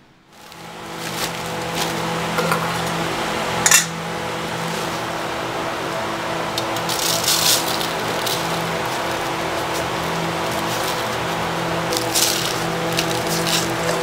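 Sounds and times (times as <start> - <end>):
steady hum: 0.0 - 14.0
metal bowl scooping in plastic sack: 0.3 - 3.0, 3.7 - 5.5, 6.5 - 14.0.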